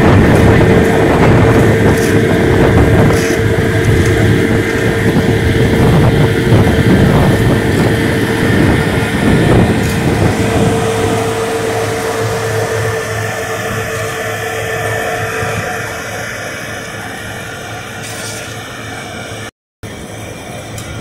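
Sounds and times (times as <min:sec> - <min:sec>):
loud engine drone: 0:00.0 - 0:21.0
mid-pitched whine: 0:00.0 - 0:21.0.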